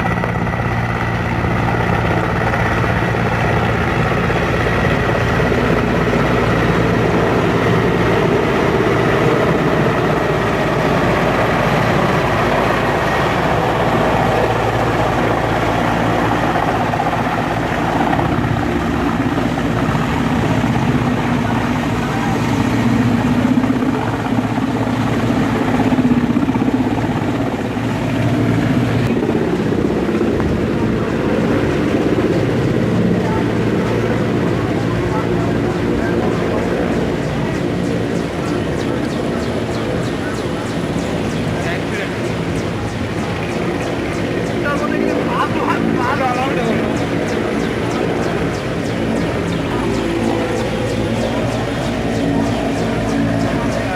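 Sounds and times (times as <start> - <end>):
helicopter rotor and turbine: 0.0 - 53.9.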